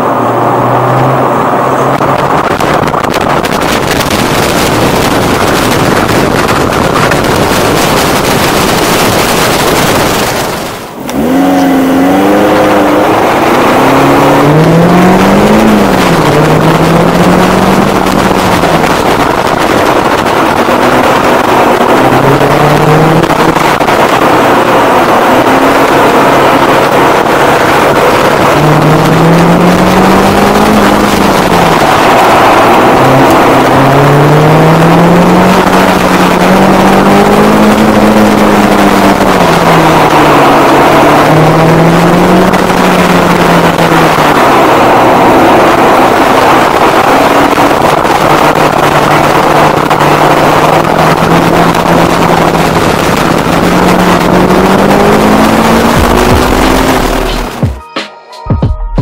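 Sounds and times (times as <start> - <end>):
car engine revving: 0.0 - 57.8
wind and road noise: 0.0 - 57.8.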